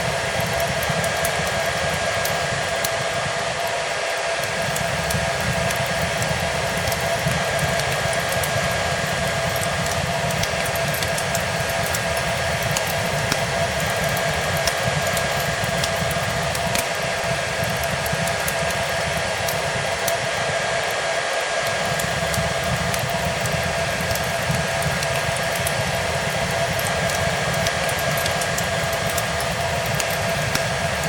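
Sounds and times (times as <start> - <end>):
hair dryer running: 0.0 - 31.0
wood fire crackling: 0.0 - 31.0.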